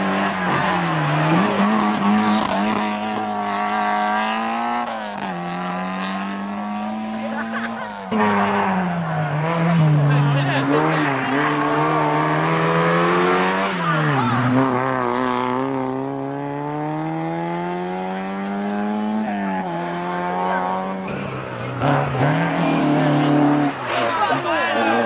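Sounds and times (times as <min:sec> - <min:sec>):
rally car engine revving: 0:00.0 - 0:25.0
second car engine revving hard: 0:00.0 - 0:25.0.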